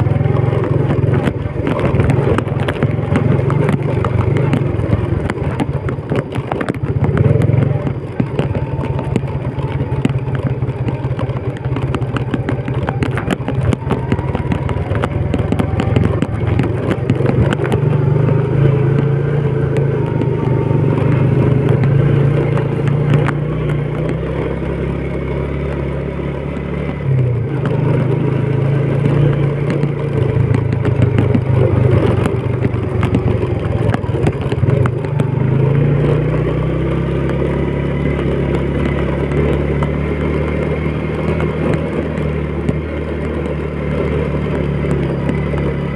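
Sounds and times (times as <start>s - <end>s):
motorcycle engine running: 0.0s - 45.9s
motorcycle rattling over bumps: 0.0s - 45.9s.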